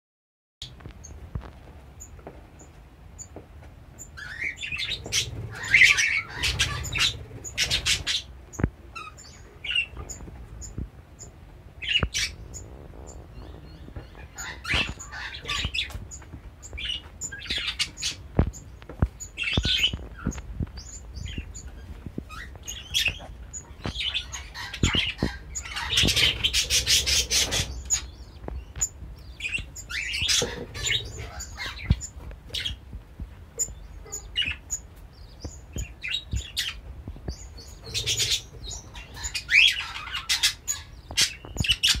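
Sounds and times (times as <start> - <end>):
budgies chirping and squeaking: 4.0 - 42.0.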